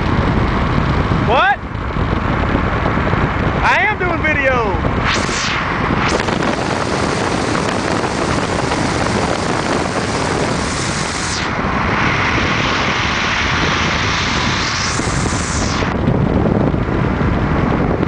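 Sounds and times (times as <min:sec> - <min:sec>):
motorcycle engine running: 0:00.0 - 0:03.9, 0:04.8 - 0:18.0
wind and road noise: 0:00.0 - 0:18.0.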